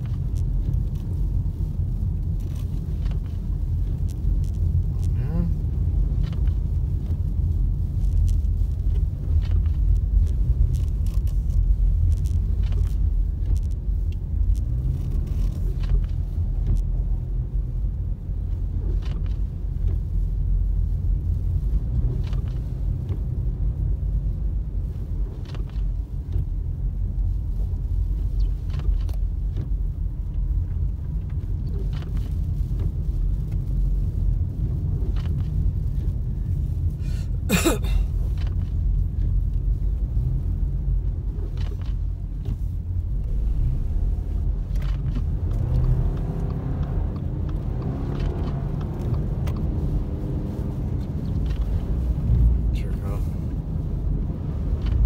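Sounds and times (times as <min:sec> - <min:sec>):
car driving on snowy road: 0:00.0 - 0:55.0.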